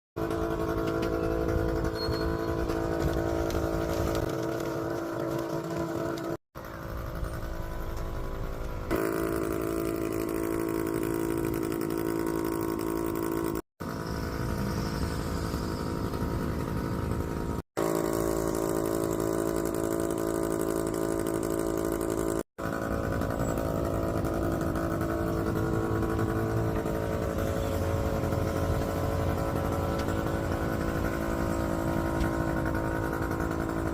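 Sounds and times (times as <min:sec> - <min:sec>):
steady engine drone: 0:00.2 - 0:33.9.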